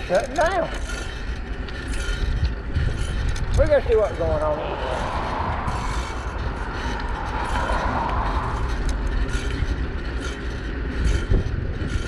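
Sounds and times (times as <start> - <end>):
bicycle rolling noise: 0.0 - 12.0
wind rumble on microphone: 0.0 - 12.0.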